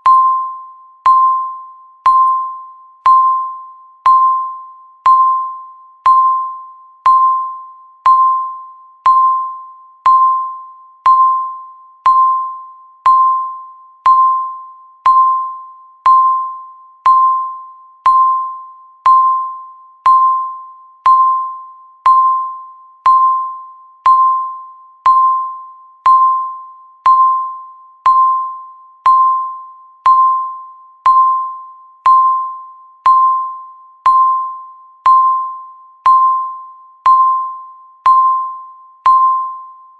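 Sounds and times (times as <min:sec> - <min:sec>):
countdown timer beeps: 0:00.0 - 0:39.9.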